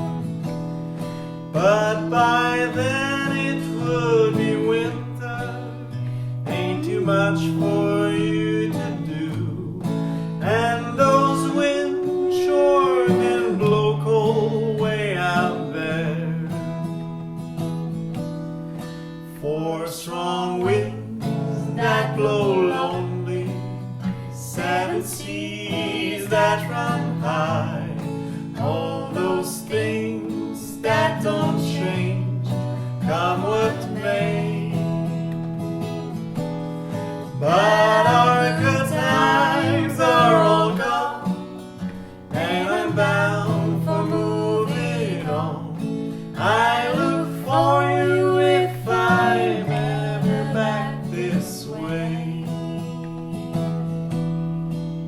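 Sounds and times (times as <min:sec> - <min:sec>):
person singing folk song: 0:00.0 - 0:17.4, 0:18.0 - 0:55.0
acoustic guitar: 0:00.0 - 0:55.0.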